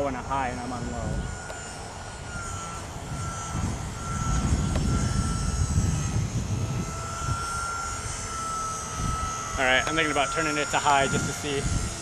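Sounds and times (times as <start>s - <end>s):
model airplane motor whining: 0.0s - 12.0s.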